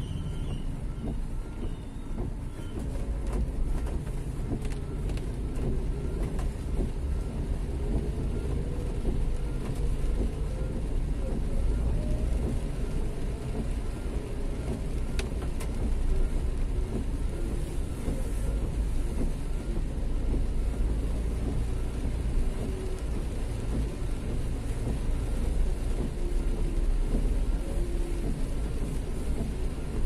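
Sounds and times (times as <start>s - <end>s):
rain noise: 0.0s - 30.0s
traffic rumble: 0.0s - 30.0s.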